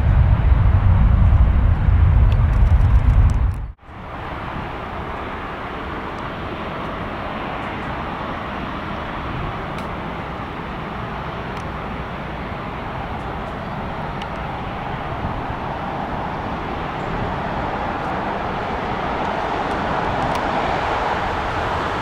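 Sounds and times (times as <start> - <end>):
deep jet rumble: 0.0 - 8.2, 9.0 - 22.0
steady jet engine noise: 0.0 - 22.0.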